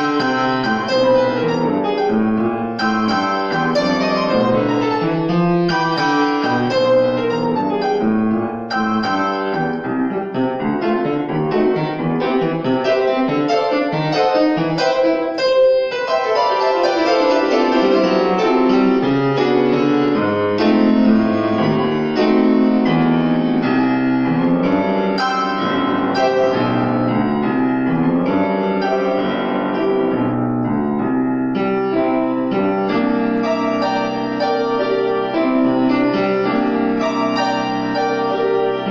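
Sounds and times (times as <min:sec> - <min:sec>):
grand piano playing: 0:00.0 - 0:38.9.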